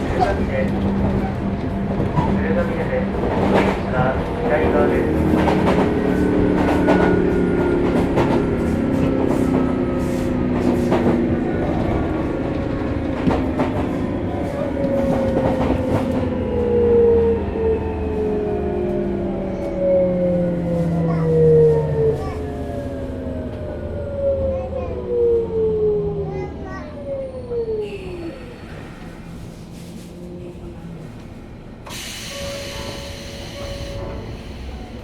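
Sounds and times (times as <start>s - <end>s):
steady train rumble: 0.0s - 35.0s.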